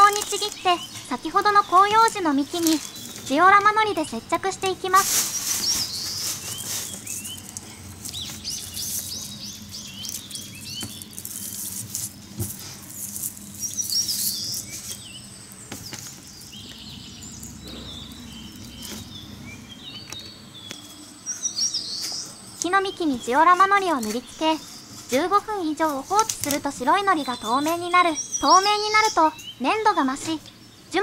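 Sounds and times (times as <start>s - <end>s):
dry branches crackling and rustling: 0.0s - 21.0s, 22.0s - 30.5s
small birds chirping: 0.0s - 31.0s.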